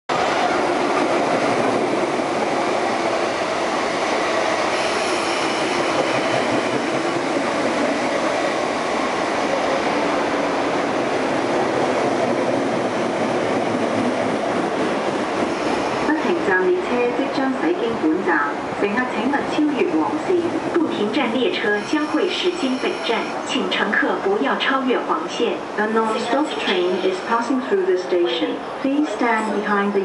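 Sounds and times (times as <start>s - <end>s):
train wheels rumbling on rail: 0.1s - 27.8s.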